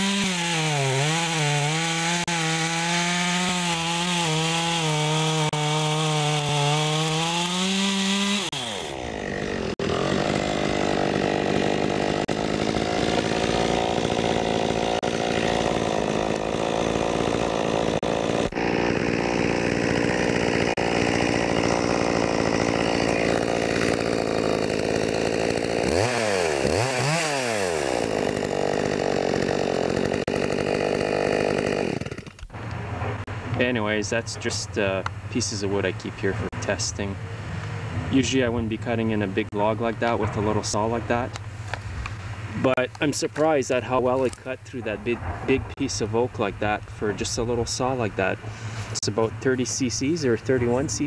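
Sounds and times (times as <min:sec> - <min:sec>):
chainsaw cutting log: 0:00.0 - 0:45.0, 0:45.7 - 0:51.0.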